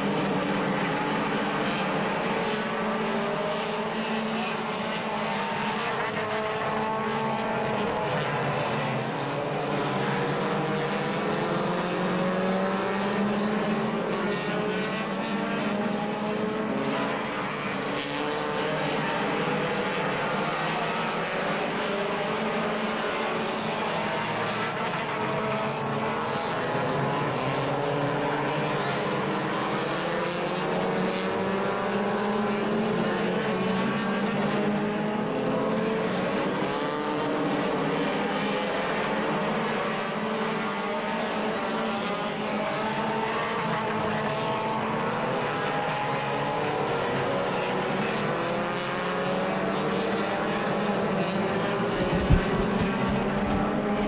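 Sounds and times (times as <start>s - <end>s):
racing car engines: 0.0s - 54.0s.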